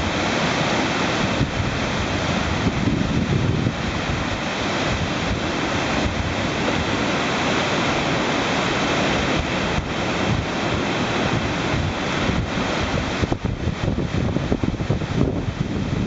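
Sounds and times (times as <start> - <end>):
river rapids rushing: 0.0 - 16.0
wind rumble on microphone: 0.0 - 16.0.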